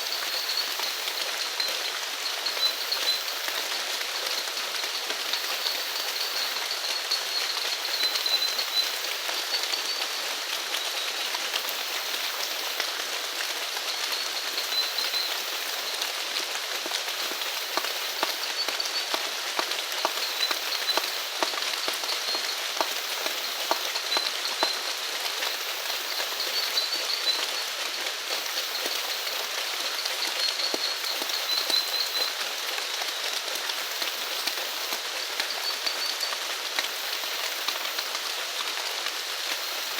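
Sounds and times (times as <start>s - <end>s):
raindrops ticking close by: 0.0s - 39.9s
steady rain falling: 0.0s - 39.9s.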